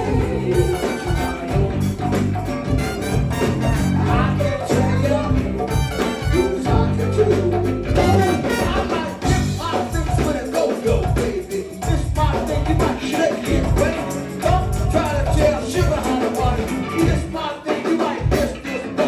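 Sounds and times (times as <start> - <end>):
band playing live music: 0.0 - 19.0.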